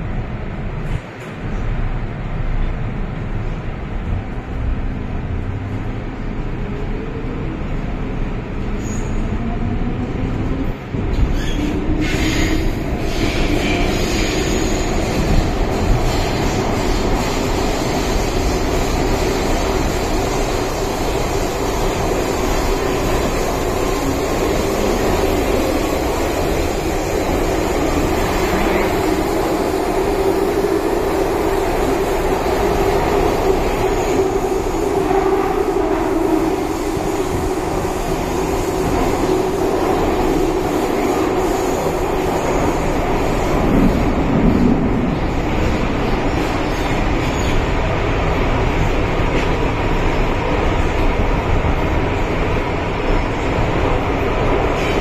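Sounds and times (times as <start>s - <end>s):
train wheels on rails: 8.2s - 55.0s.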